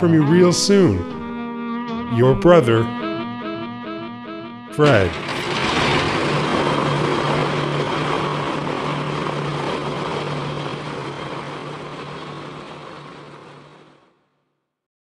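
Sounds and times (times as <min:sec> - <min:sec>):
propeller aircraft engine drone: 0:00.0 - 0:14.2.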